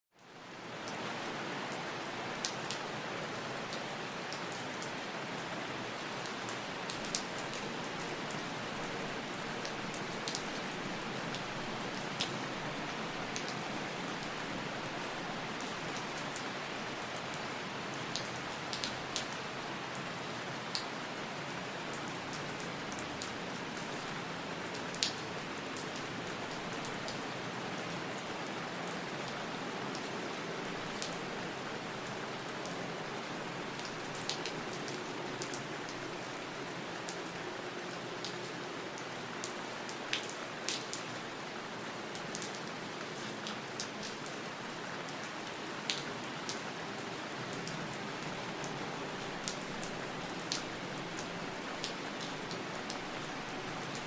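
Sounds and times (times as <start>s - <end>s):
steady rain falling: 0.1s - 54.0s
raindrops hitting close by: 0.2s - 54.0s.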